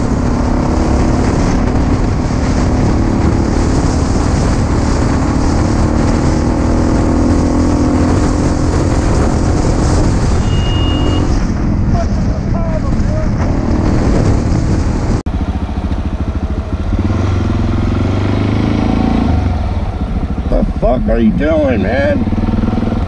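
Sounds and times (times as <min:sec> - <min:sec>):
wind rush on microphone: 0:00.0 - 0:20.6
motorcycle engine running: 0:00.0 - 0:23.0.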